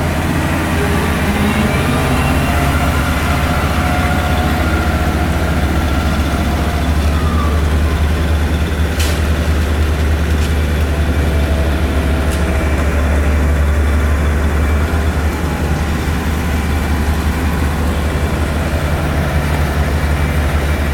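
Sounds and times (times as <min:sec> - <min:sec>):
heavy vehicle engine idling: 0:00.0 - 0:20.9.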